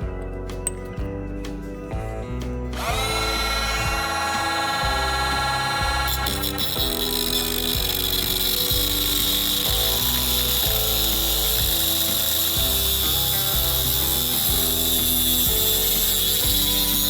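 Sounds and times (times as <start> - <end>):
background music: 0.0 - 17.0
grinder cutting metal pipe: 2.8 - 17.0.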